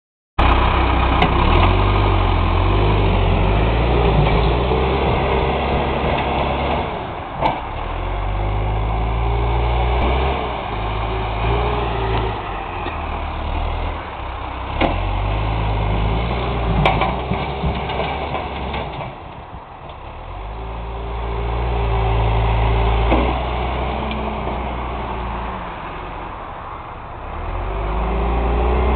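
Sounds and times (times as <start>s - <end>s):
vehicle engine revving: 0.4s - 19.0s, 20.1s - 26.4s, 27.2s - 28.9s.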